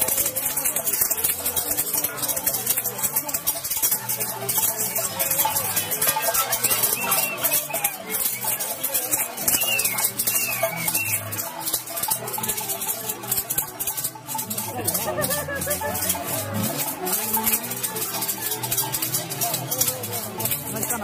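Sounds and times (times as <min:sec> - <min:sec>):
fast rattling: 0:00.0 - 0:21.0
festival street music: 0:00.0 - 0:21.0
large crowd voices: 0:00.0 - 0:21.0.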